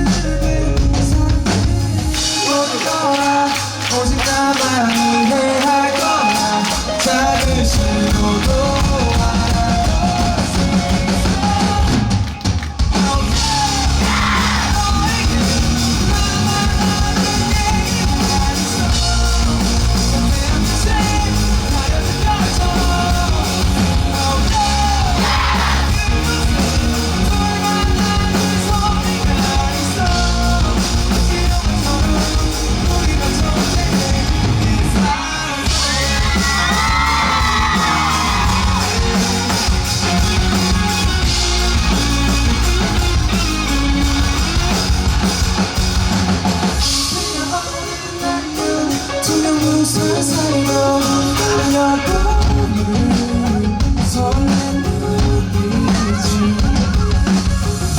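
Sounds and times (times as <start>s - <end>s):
person singing and shouting: 0.0s - 43.7s, 47.0s - 57.9s
live rock band: 0.0s - 57.9s.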